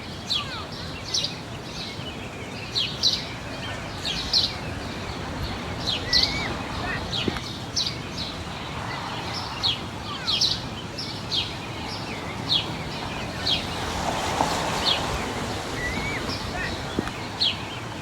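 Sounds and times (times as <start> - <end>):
low park background noise: 0.0 - 18.0
small birds chirping: 0.0 - 18.0.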